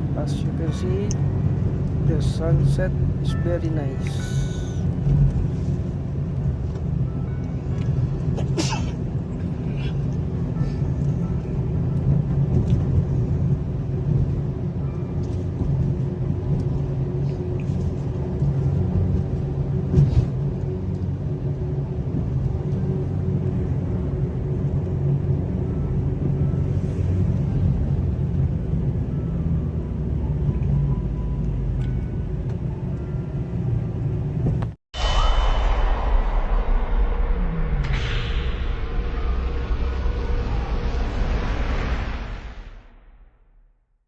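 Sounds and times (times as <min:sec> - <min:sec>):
car road and engine rumble: 0:00.0 - 0:43.4.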